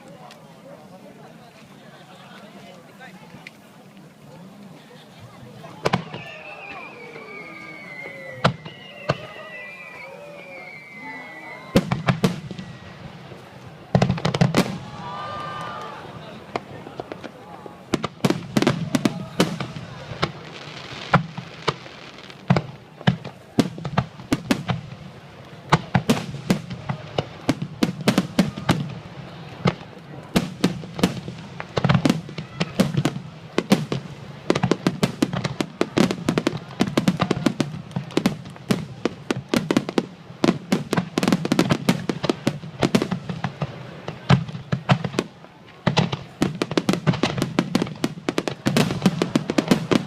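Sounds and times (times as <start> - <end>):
fireworks crackling: 0.0 - 50.0
fireworks bangs: 5.6 - 50.0.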